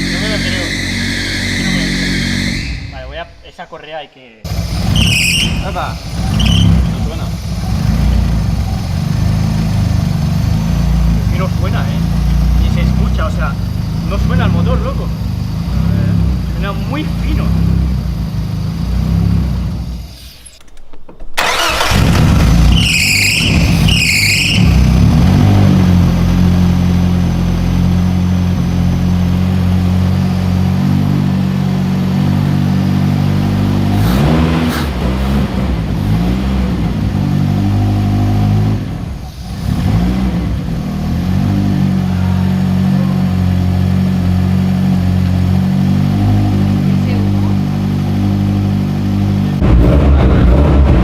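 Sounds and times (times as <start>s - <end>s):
turbocharged engine idling and revving: 0.0s - 3.2s, 4.4s - 51.0s.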